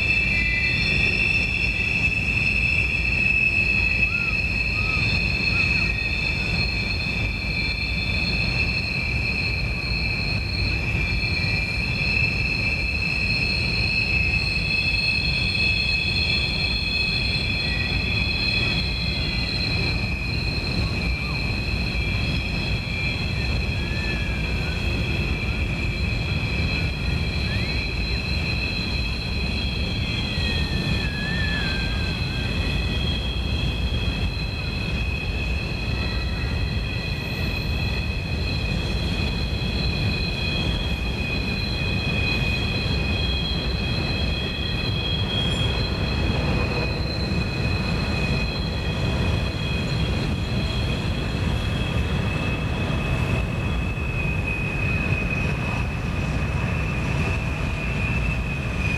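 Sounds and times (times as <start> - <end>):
low train rumble: 0.0 - 58.9
train wheels squealing on rails: 0.0 - 58.9.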